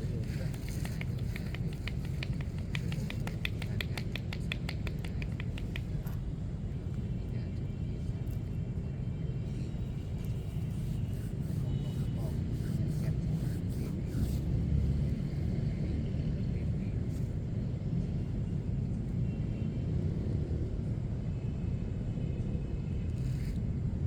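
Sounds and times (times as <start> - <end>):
low rumble of street traffic: 0.0 - 24.0.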